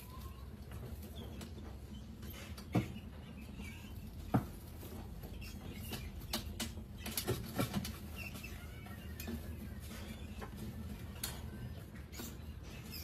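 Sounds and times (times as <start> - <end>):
rats scurrying and scratching: 0.0 - 13.0.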